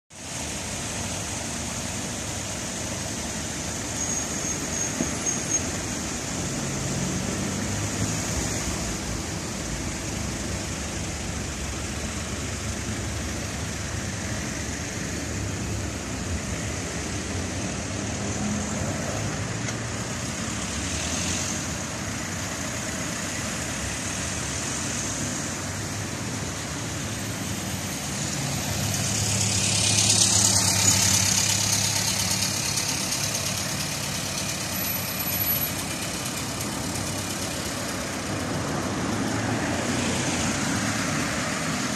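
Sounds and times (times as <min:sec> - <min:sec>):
cars driving past: 0:00.4 - 0:41.9.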